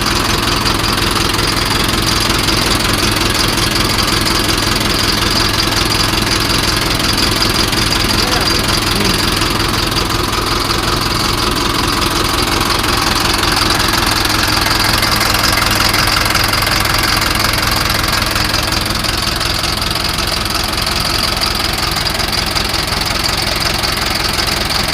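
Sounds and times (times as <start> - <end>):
tractor engine idling: 0.0 - 24.9.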